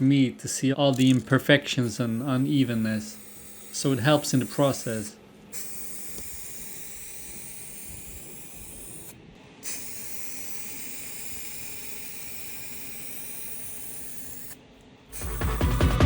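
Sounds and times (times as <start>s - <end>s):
spray paint hissing: 0.9s - 16.0s.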